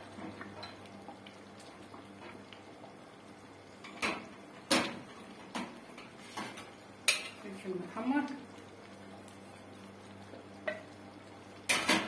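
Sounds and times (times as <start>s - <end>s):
low steady hum: 0.0s - 12.0s
sauce crackling in pot: 0.0s - 12.0s.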